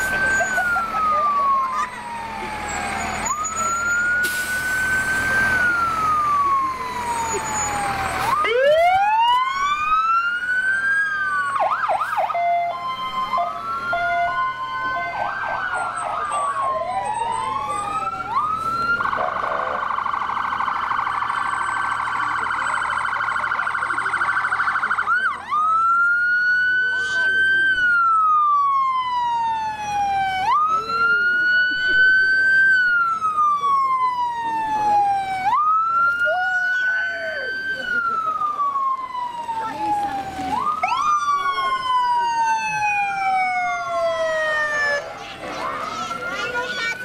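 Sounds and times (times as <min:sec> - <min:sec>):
emergency vehicle siren: 0:00.0 - 0:47.0.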